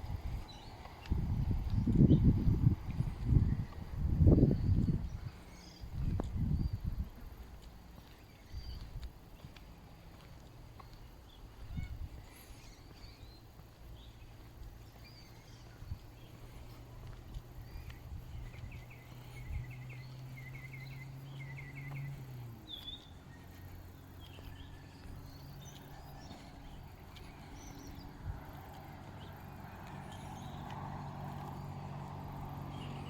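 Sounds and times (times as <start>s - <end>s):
birds calling: 4.5s - 33.0s.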